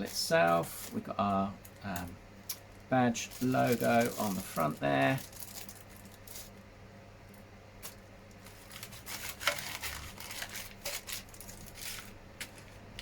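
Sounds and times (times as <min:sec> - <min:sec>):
plastic bags rustling: 0:00.0 - 0:06.6, 0:07.8 - 0:13.0.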